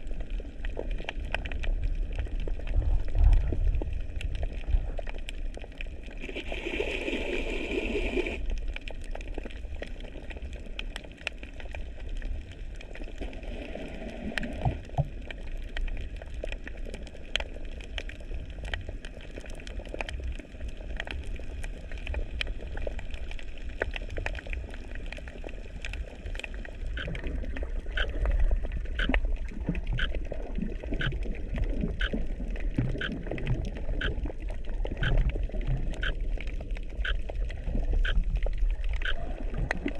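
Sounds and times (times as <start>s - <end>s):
underwater clicks and crackles: 0.0s - 39.9s
underwater rumble of water: 0.0s - 39.9s
water gurgle: 0.0s - 39.9s.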